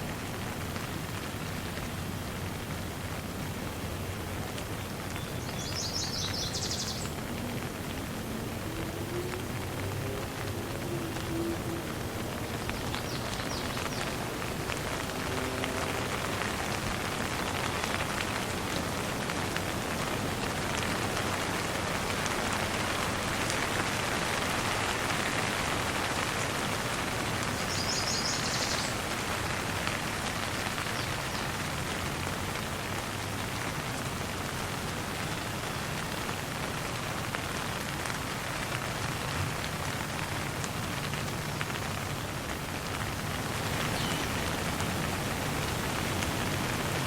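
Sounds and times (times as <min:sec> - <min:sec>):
light rain pattering: 0:00.0 - 0:47.0.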